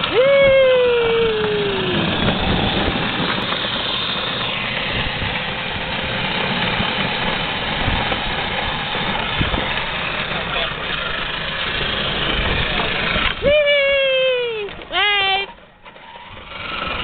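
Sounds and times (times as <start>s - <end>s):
toy car rolling on asphalt: 0.0s - 17.0s.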